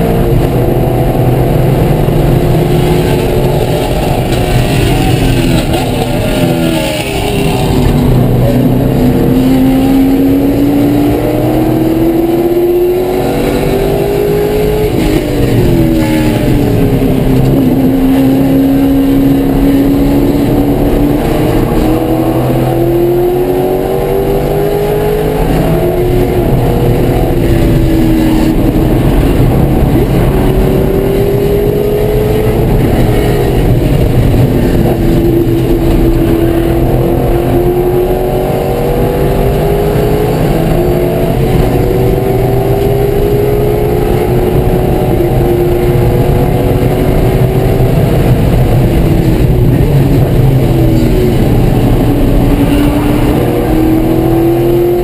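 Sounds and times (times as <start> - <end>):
race car engine revving: 0.0 - 55.0
wind and tyre noise: 0.0 - 55.0.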